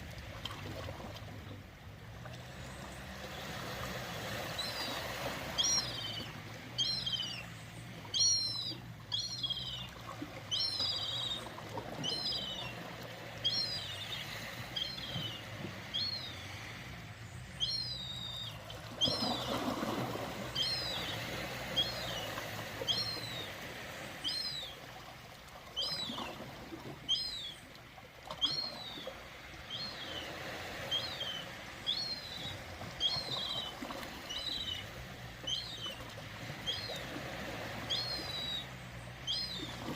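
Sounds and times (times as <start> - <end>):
ocean water washing: 0.0 - 39.9.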